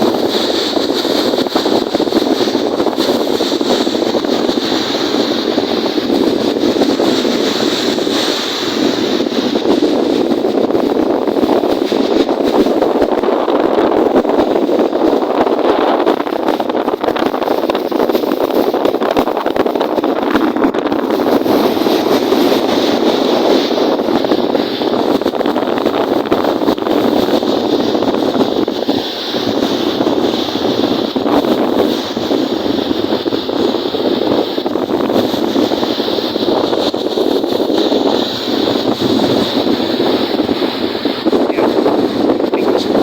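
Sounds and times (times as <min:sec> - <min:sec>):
choppy lake waves: 0:00.0 - 0:43.0
strong wind rushing: 0:00.0 - 0:43.0
wind buffeting microphone: 0:00.0 - 0:43.0.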